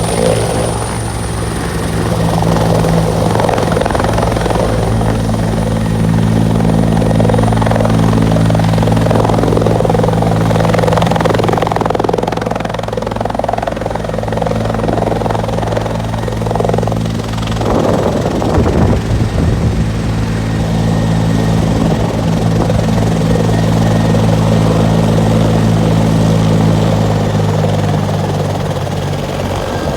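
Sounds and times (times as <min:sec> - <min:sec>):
helicopter rotor and turbine: 0:00.0 - 0:29.9.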